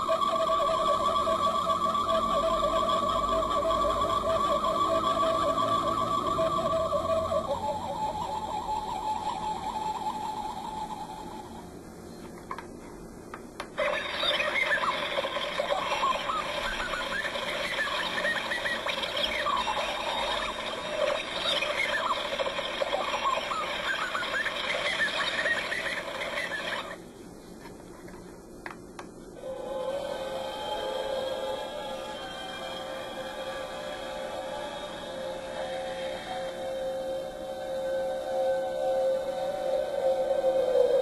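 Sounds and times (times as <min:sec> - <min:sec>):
electronic scanning warble of chirps: 0:00.0 - 0:11.7, 0:13.8 - 0:27.0, 0:29.4 - 0:41.0
rapidly pulsing electronic tone: 0:00.0 - 0:11.8, 0:13.8 - 0:27.0, 0:29.4 - 0:41.0.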